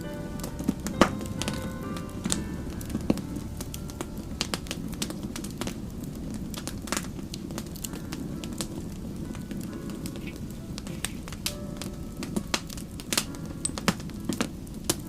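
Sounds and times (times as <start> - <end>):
campfire crackling and popping: 0.0 - 15.0
low rumble of burning fire: 0.0 - 15.0.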